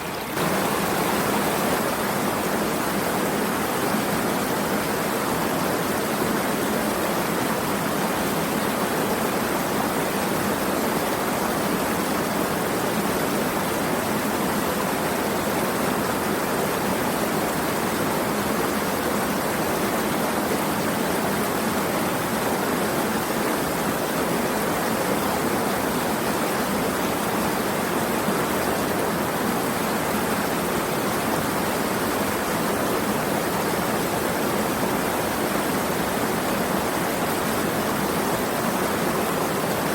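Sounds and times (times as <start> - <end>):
rush of running water: 0.0 - 39.9.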